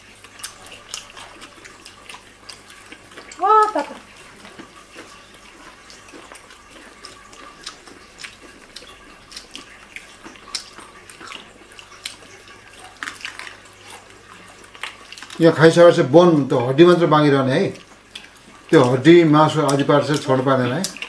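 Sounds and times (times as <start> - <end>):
people chewing fried chicken: 0.0 - 21.0.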